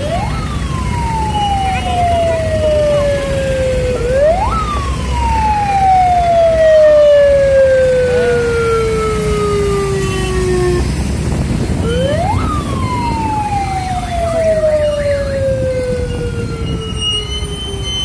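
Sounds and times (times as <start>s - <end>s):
wailing siren: 0.0s - 11.1s, 11.7s - 18.0s.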